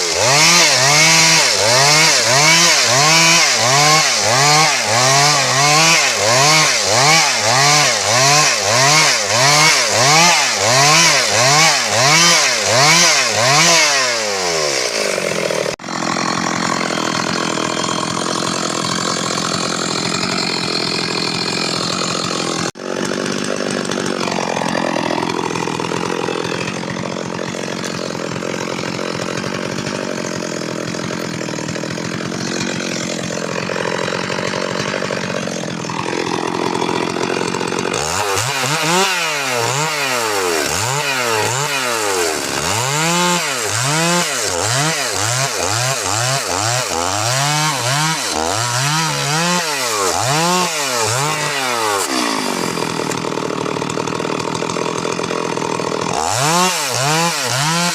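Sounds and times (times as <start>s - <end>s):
chainsaw running and revving: 0.0s - 57.9s.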